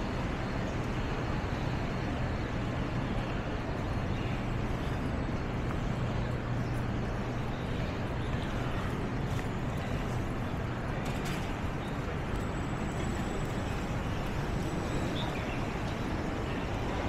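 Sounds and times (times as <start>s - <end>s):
city street hum: 0.0s - 17.0s.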